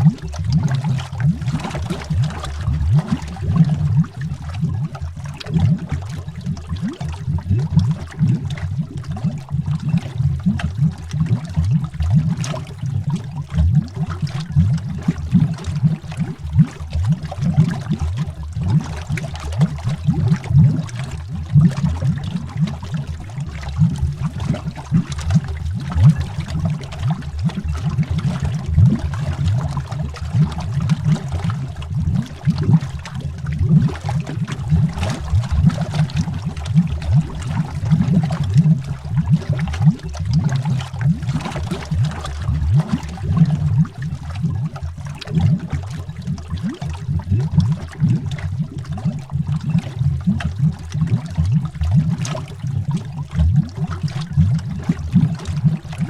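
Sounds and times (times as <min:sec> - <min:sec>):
underwater air bubbles popping: 0:00.0 - 0:56.0.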